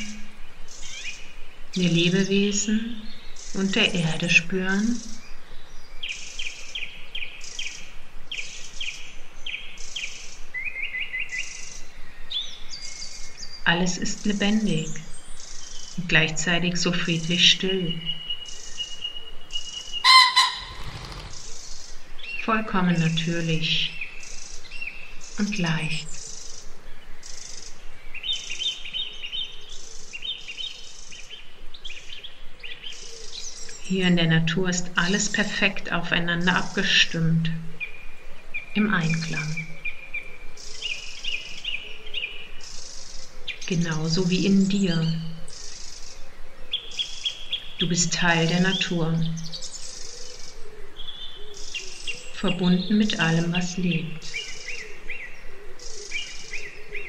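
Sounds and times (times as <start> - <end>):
forest birds singing: 0.0 - 57.0
songbird chirping: 0.0 - 57.0
steady background hiss: 0.0 - 57.0.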